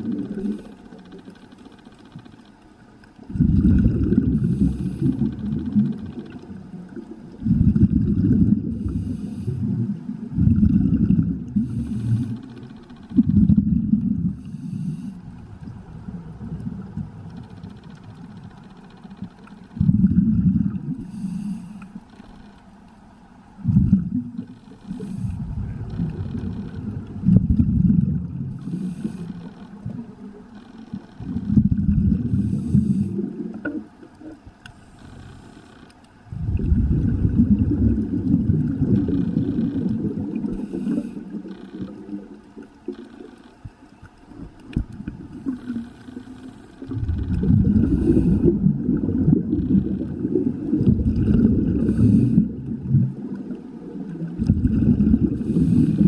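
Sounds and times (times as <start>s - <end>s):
exhaled bubbles underwater: 0.0s - 0.7s, 3.2s - 18.4s, 19.7s - 21.4s, 23.6s - 34.5s, 36.2s - 56.0s.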